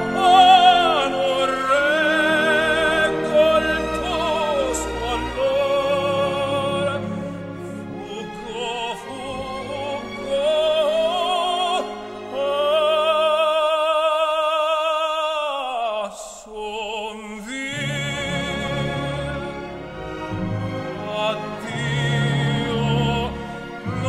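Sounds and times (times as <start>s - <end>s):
orchestra playing: 0.0s - 15.5s, 17.3s - 24.0s
opera singer with vibrato: 0.0s - 19.6s, 21.0s - 24.0s.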